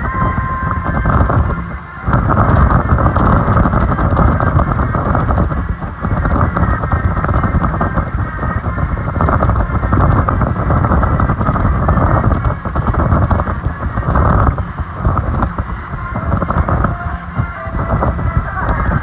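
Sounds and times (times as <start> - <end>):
speedboat engine: 0.0 - 19.0
wind buffeting microphone: 0.0 - 19.0.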